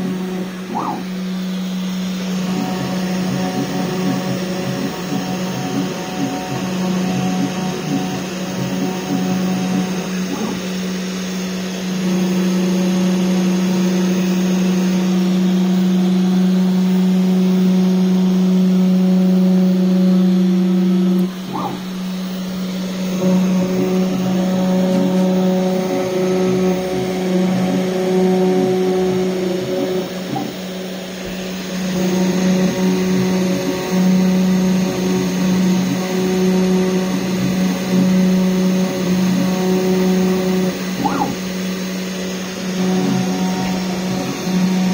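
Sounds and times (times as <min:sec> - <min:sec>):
high whining tones: 0:00.0 - 0:44.9
router motor hum: 0:00.0 - 0:44.9.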